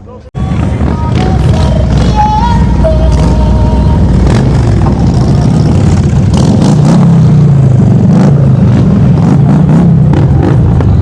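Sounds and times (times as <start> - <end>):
motorcycle engine running: 0.4 - 11.0.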